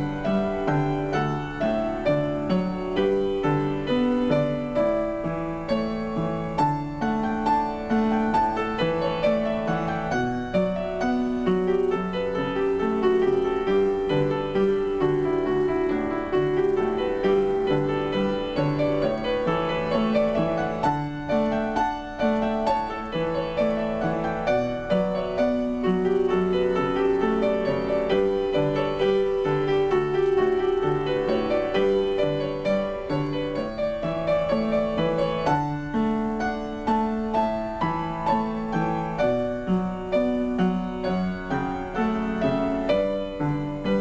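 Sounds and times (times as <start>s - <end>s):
gentle piano music: 0.0s - 44.0s.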